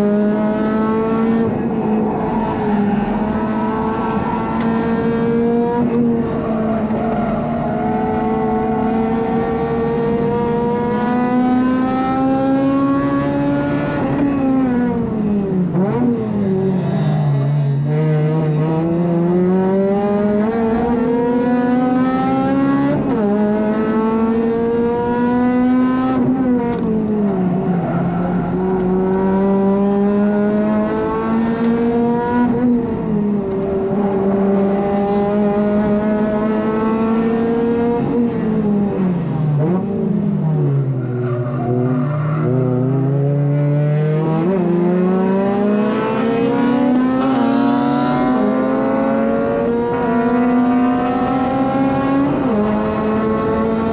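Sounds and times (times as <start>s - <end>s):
car engine revving through gears: 0.0s - 53.9s.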